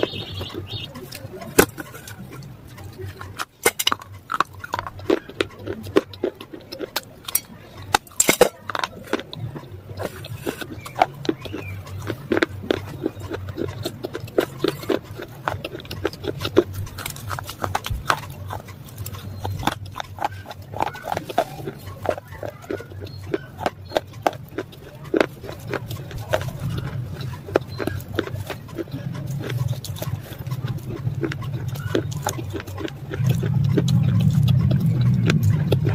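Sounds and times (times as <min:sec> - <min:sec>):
low steady hum: 0:00.0 - 0:35.9
person chewing crunchy food: 0:00.0 - 0:35.9.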